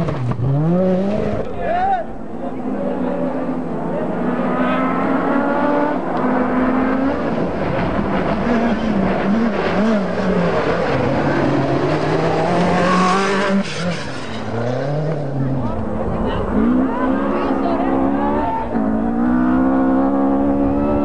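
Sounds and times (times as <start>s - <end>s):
rally car engine revving hard: 0.0s - 1.5s, 2.6s - 21.0s.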